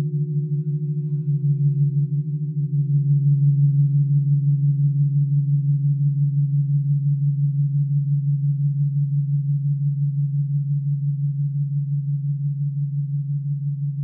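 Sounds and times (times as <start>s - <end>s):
crystal singing bowl tone: 0.0s - 14.0s.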